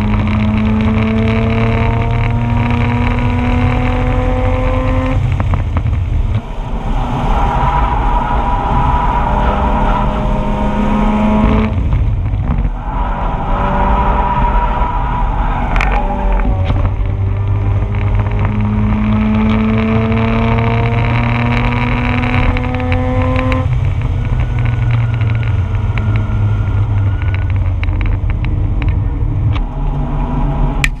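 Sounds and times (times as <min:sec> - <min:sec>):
rotary engine revving: 0:00.0 - 0:31.0.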